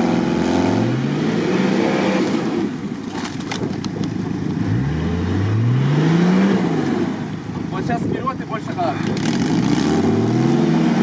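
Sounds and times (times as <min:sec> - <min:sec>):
off-road vehicle engine revving: 0:00.0 - 0:03.0, 0:04.1 - 0:11.0.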